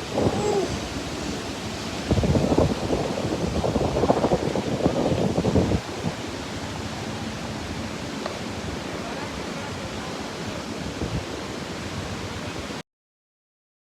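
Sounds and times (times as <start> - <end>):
river water rushing: 0.0 - 12.8
wind buffeting on microphone: 0.0 - 12.8.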